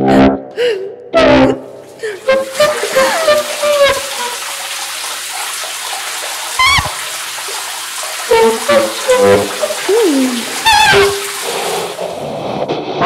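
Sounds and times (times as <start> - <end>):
synthesizer water-like hiss: 1.7 - 13.0.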